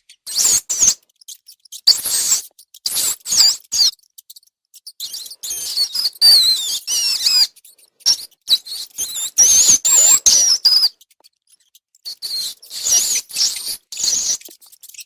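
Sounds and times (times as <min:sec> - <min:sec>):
rats squeaking: 0:00.0 - 0:15.0.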